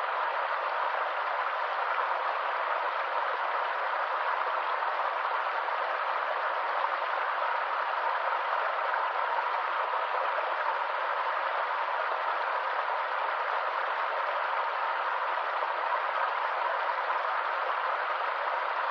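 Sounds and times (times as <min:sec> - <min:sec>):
small stream running: 0:00.0 - 0:18.9.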